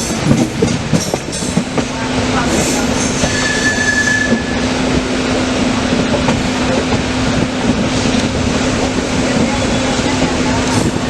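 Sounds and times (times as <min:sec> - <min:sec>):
train running at speed: 0:00.0 - 0:11.0.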